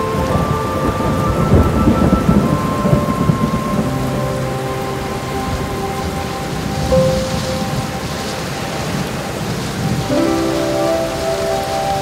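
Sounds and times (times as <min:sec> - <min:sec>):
heavy rain: 0:00.0 - 0:12.0
soft sustained musical notes: 0:00.0 - 0:12.0
thunder rumbling: 0:00.0 - 0:12.0.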